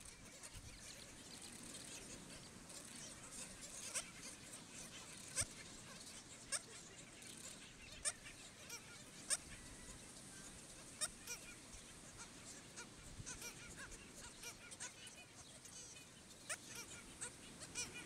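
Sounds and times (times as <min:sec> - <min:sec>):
birds giving sharp calls: 0:00.0 - 0:18.0
faint steady hiss: 0:00.0 - 0:18.0.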